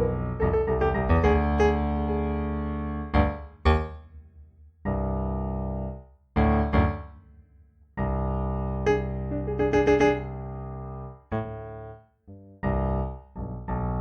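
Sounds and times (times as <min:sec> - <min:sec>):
slow improvised piano music: 0:00.0 - 0:04.0, 0:04.9 - 0:07.1, 0:08.0 - 0:12.0, 0:12.6 - 0:14.0.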